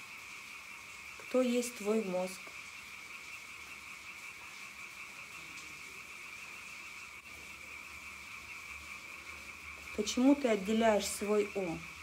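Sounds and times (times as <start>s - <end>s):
frogs calling: 0.0s - 12.0s
insects chirping: 0.0s - 12.0s.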